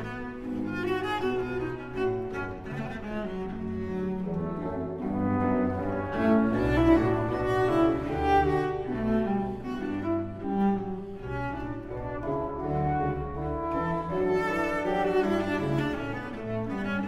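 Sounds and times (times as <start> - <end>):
slow music with bowed strings: 0.0 - 17.0.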